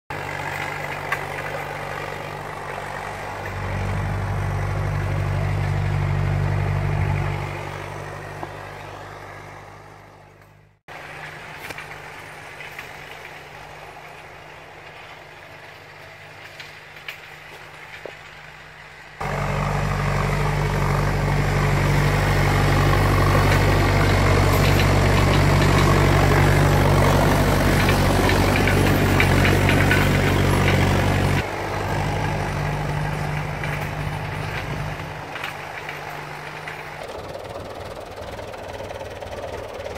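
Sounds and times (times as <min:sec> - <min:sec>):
tractor engine running under load: 0:00.1 - 0:39.9.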